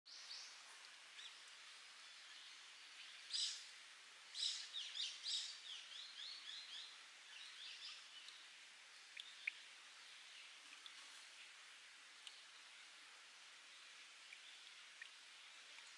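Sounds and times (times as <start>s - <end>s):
trickling water: 0.1s - 15.9s.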